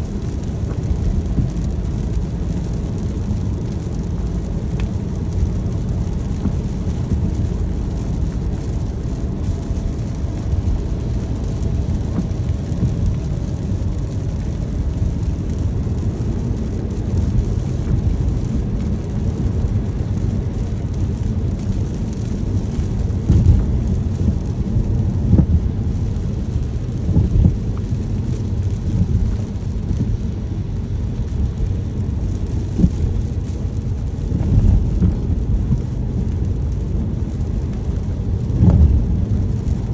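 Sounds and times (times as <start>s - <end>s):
car rumbling on road: 0.0s - 39.9s
rain hiss: 0.0s - 39.9s.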